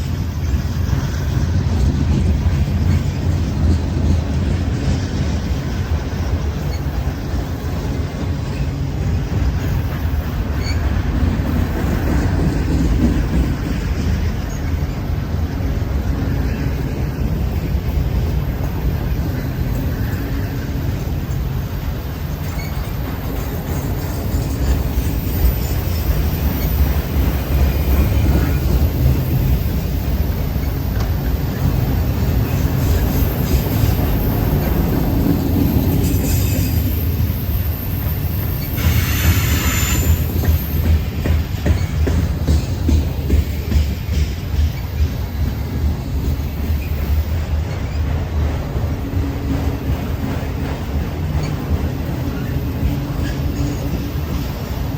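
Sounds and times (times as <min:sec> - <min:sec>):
passing train rumble: 0:00.0 - 0:54.9.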